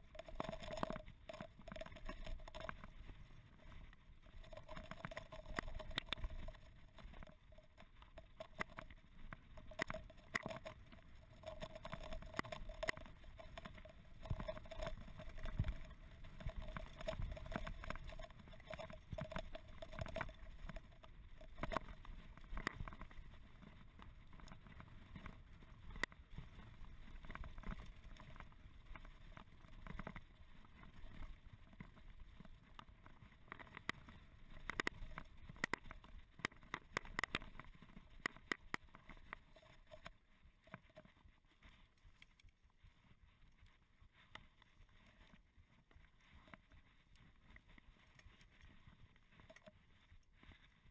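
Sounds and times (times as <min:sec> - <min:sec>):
rumble of wind and ground noise: 0:00.0 - 0:50.9.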